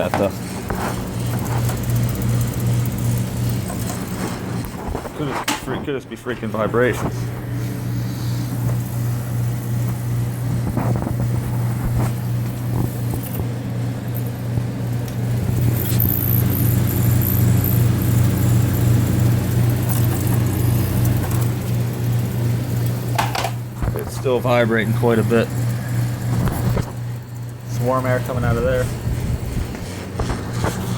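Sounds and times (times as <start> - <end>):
air conditioner compressor humming: 0.0 - 30.9
vibration rattle: 0.0 - 30.9.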